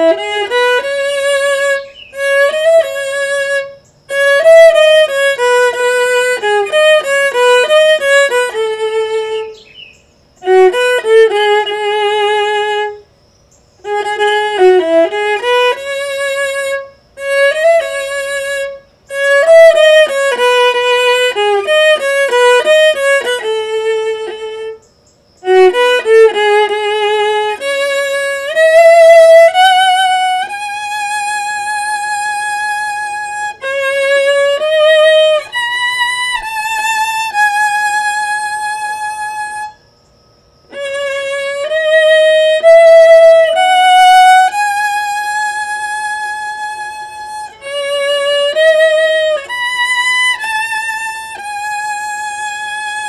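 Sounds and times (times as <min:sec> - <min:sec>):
bowed viola melody: 0:00.0 - 0:39.9, 0:40.7 - 0:53.0.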